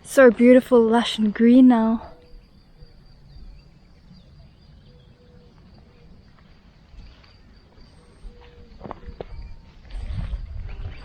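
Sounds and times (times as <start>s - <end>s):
insect trill: 0.0s - 11.0s
low bird calls: 0.9s - 11.0s.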